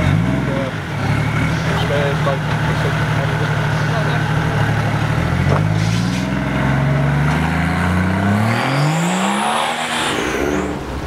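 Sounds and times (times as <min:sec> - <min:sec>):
pickup truck engine revving: 0:00.0 - 0:11.0.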